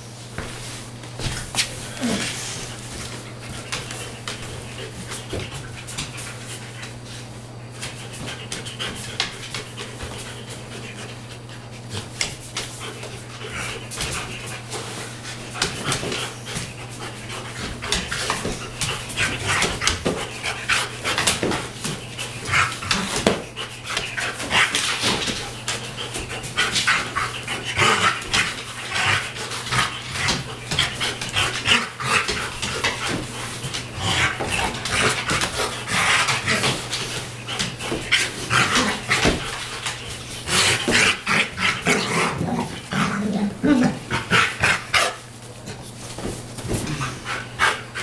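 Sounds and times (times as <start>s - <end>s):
rustling and scuffling on dog bed: 0.0s - 48.0s
dog panting hard: 2.2s - 42.4s, 46.7s - 48.0s.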